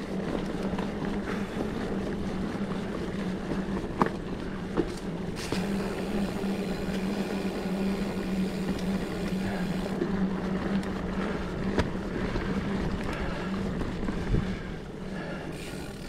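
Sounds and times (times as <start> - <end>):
bike tyres whirring on dirt: 0.0 - 16.0.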